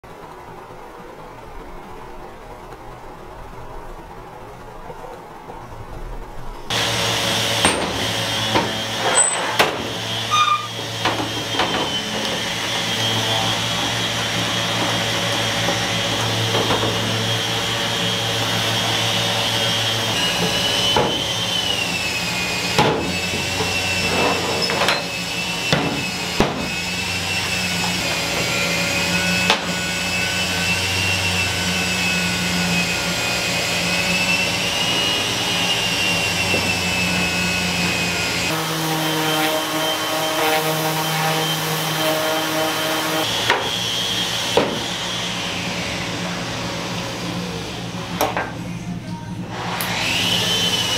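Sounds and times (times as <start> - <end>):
dust extractor droning: 0.0 - 50.9.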